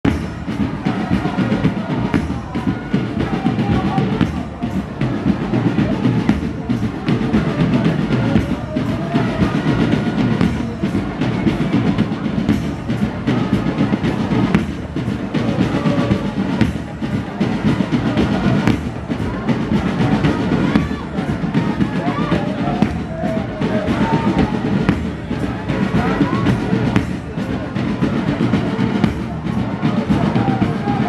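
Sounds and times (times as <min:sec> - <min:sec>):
marching band drums: 0:00.0 - 0:31.0.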